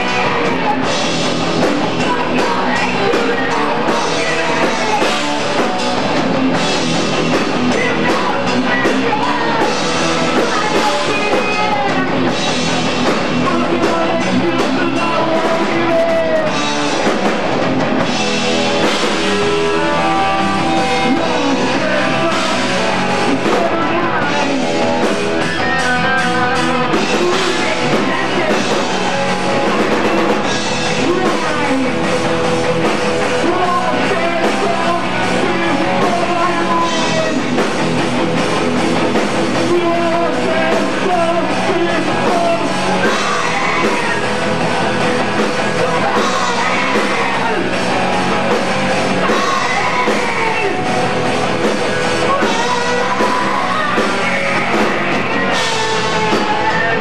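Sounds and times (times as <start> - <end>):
person singing: 0.0 - 17.4, 18.6 - 57.0
distorted electric guitar: 0.0 - 57.0
drum kit: 0.0 - 57.0.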